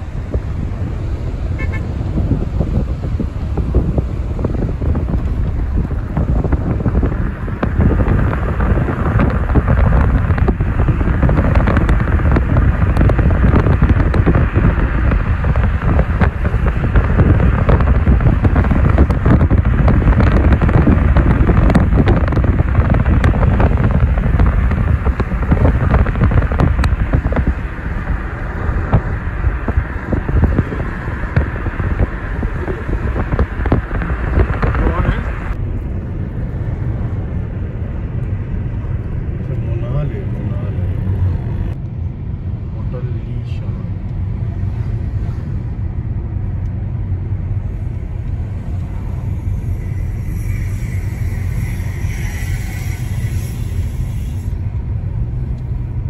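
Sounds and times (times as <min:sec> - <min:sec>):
wind on microphone: 0:00.0 - 0:43.0, 0:43.6 - 0:56.0
vehicle road noise: 0:00.0 - 0:56.0.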